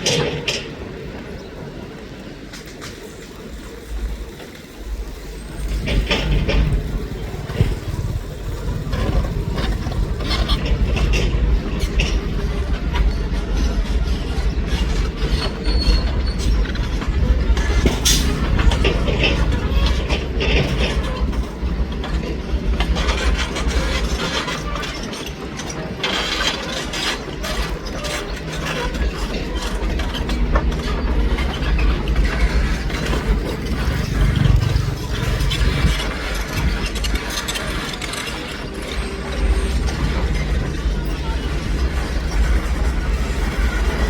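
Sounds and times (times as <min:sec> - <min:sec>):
excavator diesel engine rumbling: 0:03.0 - 0:44.0.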